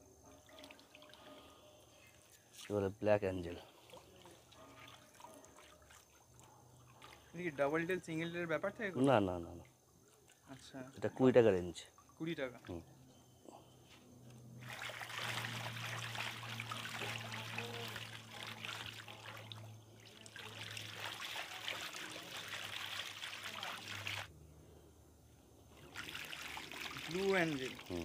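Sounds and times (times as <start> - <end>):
water trickling and splashing: 0.3 - 13.2, 14.5 - 24.3, 25.7 - 28.0.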